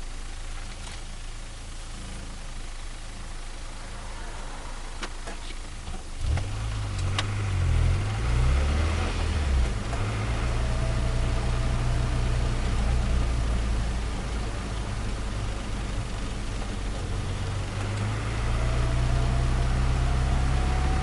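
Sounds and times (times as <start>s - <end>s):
car engine starting and idling: 0.0s - 21.0s.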